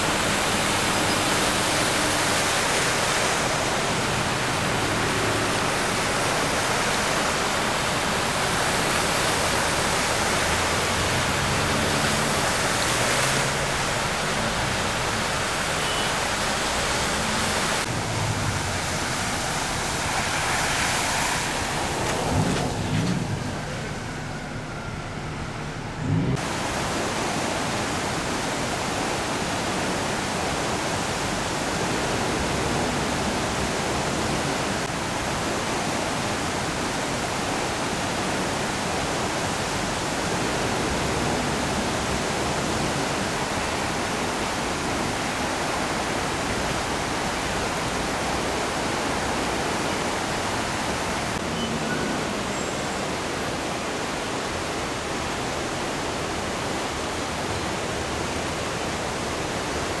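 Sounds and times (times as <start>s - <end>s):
floodwater rushing: 0.0s - 60.0s.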